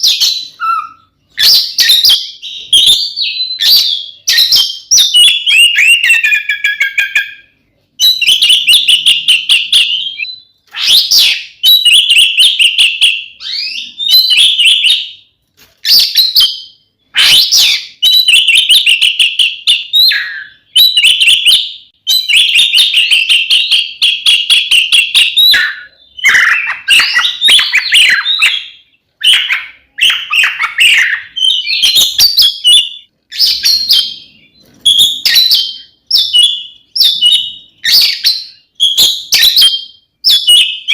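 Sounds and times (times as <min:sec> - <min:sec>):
bird singing trilled phrases: 0:00.0 - 0:40.9.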